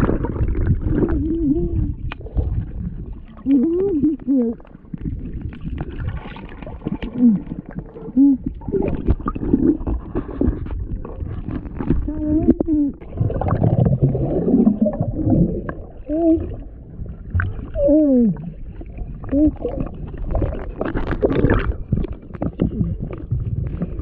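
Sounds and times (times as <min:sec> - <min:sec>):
low rumble: 0:00.0 - 0:24.0
water sloshing and gurgling: 0:00.0 - 0:24.0.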